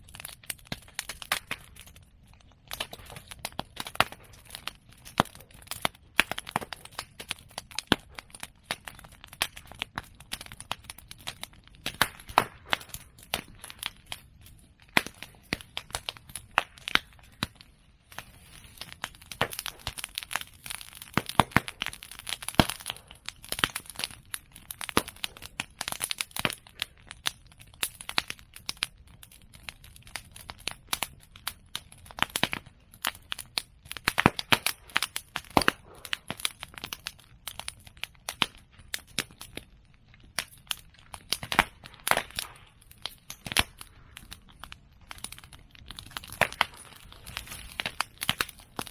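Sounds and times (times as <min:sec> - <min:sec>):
bamboo popping in fire: 0:00.0 - 0:48.9
open fire crackling: 0:00.0 - 0:48.9.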